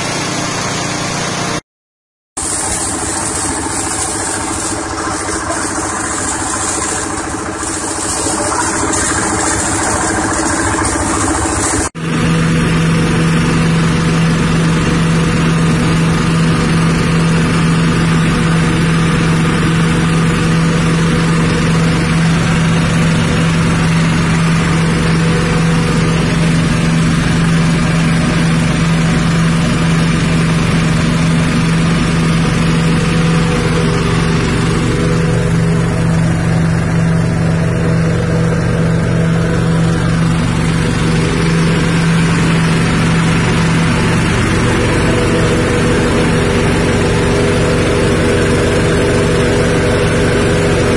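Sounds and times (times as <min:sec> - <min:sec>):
petrol engine running: 0:02.4 - 0:50.9.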